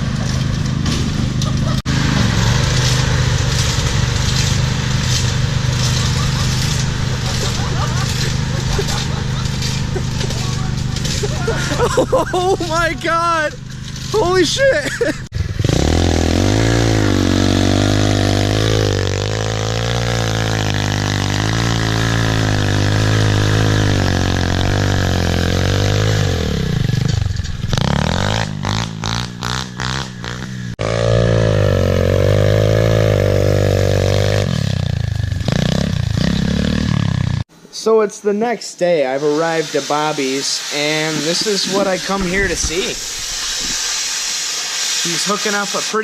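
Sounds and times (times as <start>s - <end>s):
small engine running: 0.0s - 37.4s.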